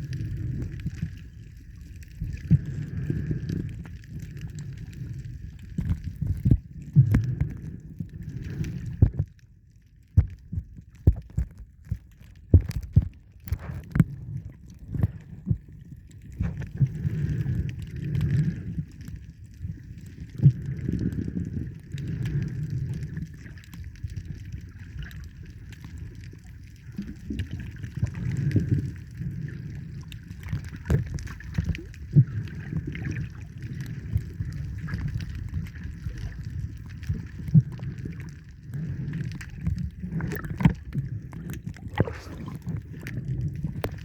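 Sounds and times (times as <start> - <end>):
water sloshing and gurgling: 0.0 - 44.0.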